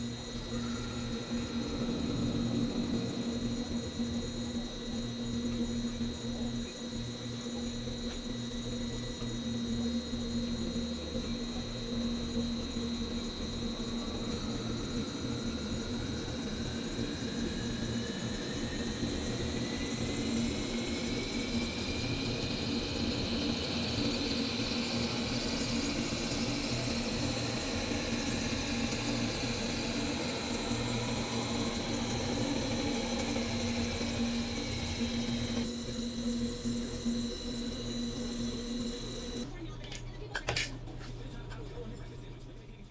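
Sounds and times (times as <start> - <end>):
thin whine: 0.0 - 40.3
metalworking machine humming: 0.0 - 42.9.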